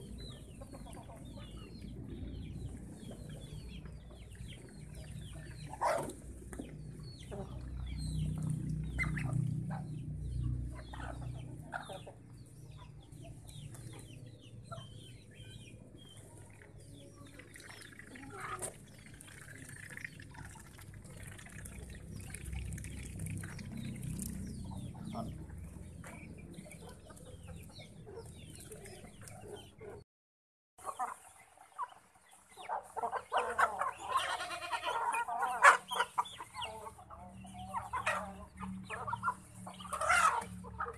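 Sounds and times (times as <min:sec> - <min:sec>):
chickens clucking: 0:00.0 - 0:30.0, 0:30.8 - 0:40.9.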